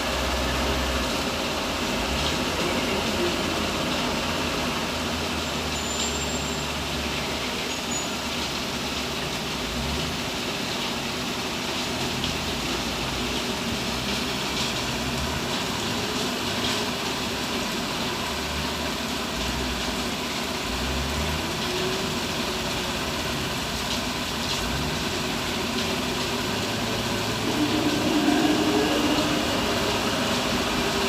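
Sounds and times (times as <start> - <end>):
diesel engine of heavy machinery: 0.0 - 31.0.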